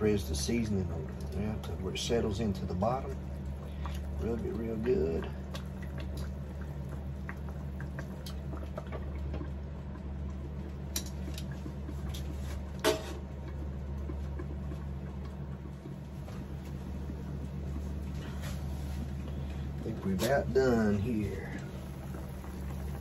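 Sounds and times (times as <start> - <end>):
low hum: 0.0 - 23.0
meat simmering and bubbling: 0.0 - 23.0.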